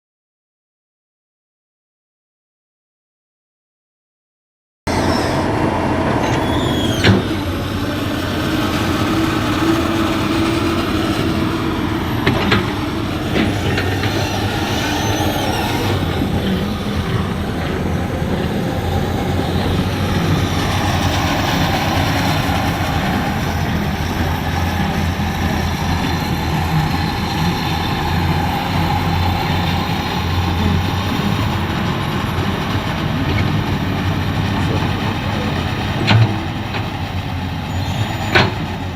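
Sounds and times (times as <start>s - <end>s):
excavator diesel engine running: 4.9s - 38.9s.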